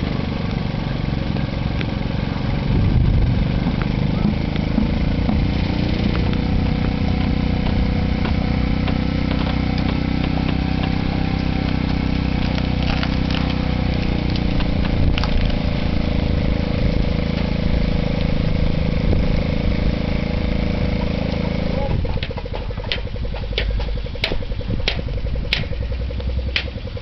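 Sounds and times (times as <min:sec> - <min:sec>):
small petrol engine running: 0:00.0 - 0:27.0.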